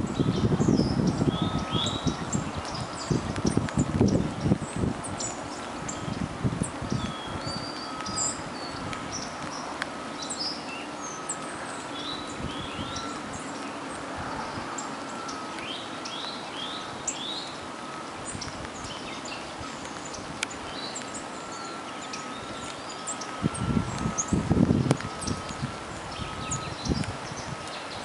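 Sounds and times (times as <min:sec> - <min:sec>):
rain hissing: 0:00.0 - 0:28.0
songbirds chirping: 0:00.0 - 0:28.0.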